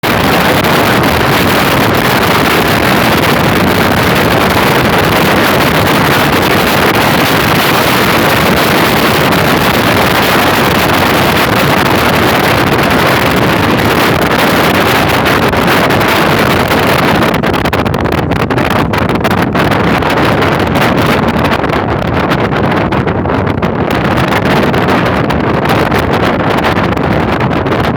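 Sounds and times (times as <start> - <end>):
car road noise: 0.0 - 27.9
wind rushing over microphone: 0.0 - 27.9.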